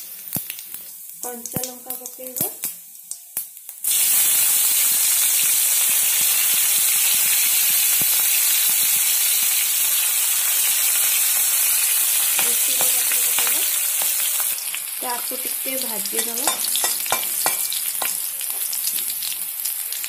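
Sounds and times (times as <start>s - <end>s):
chillies sizzling in hot oil: 0.0s - 20.0s.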